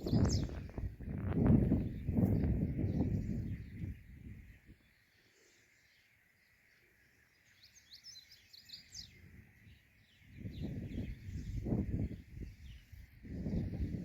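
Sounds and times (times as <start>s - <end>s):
faint high bird chirps: 0.0s - 0.9s, 1.7s - 14.0s.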